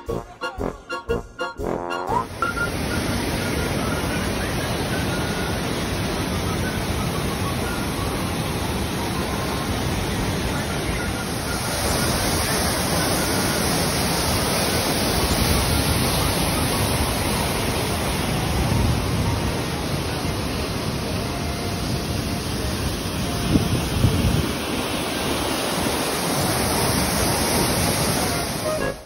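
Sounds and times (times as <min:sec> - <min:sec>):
waterfall rushing: 0:02.2 - 0:29.0.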